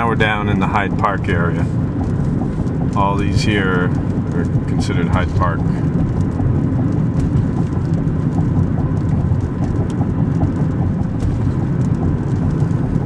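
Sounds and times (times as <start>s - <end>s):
car road and tyre noise: 0.0s - 13.0s
wind: 0.0s - 13.0s.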